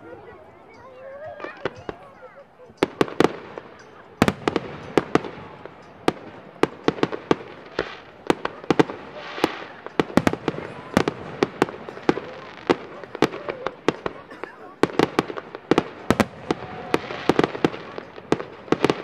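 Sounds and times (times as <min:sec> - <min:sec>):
firework shells bursting: 0:02.8 - 0:19.0.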